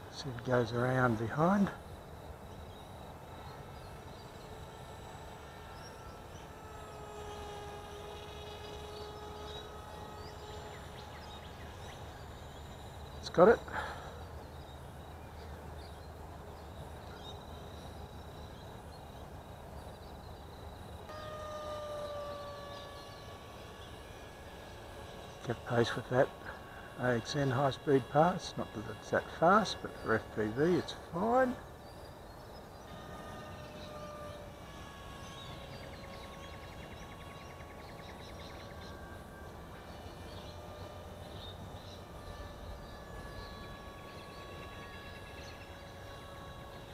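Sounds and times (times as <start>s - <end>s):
model plane motor whining: 0.0s - 46.9s.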